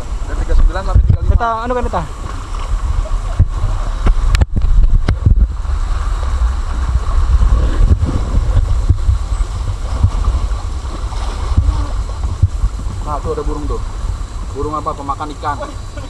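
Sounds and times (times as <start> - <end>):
whitewater rushing: 0.0 - 16.0
wind buffeting microphone: 0.0 - 16.0.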